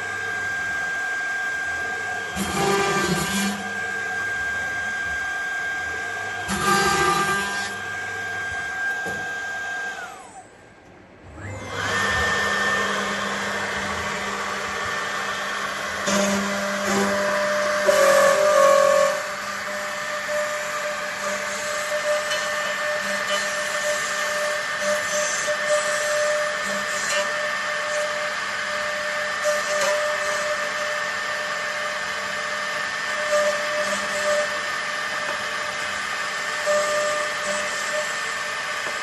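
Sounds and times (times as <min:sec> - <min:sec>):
router spindle whine: 0:00.0 - 0:39.0.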